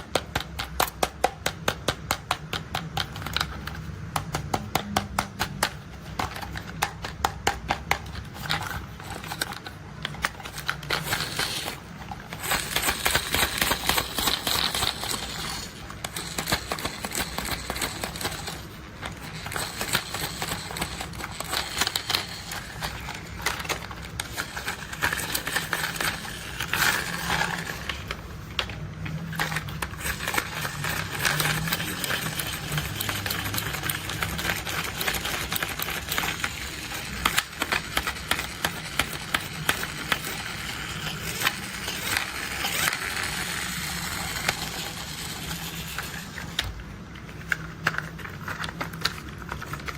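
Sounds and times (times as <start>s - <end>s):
plastic toys clicking and tapping: 0.0s - 49.9s.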